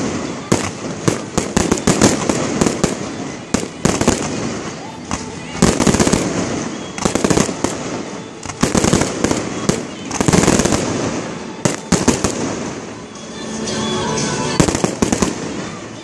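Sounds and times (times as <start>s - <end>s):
fireworks bangs: 0.0s - 13.1s, 14.5s - 16.0s.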